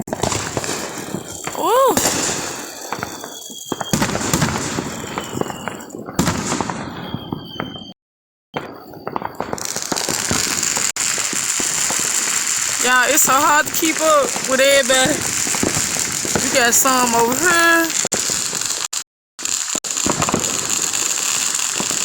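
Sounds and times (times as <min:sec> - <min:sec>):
fireworks crackling: 0:00.0 - 0:07.9, 0:08.6 - 0:22.0
fireworks bangs: 0:00.0 - 0:08.0, 0:08.6 - 0:22.0.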